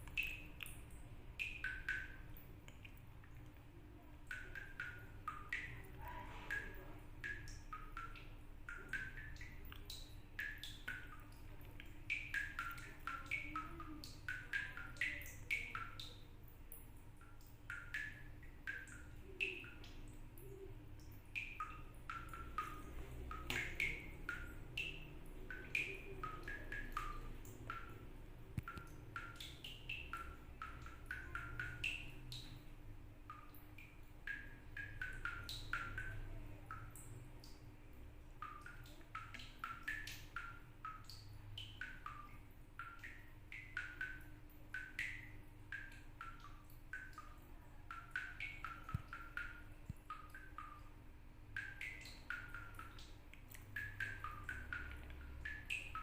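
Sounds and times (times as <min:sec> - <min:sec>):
water drops plinking from a tap: 0:00.0 - 0:56.0.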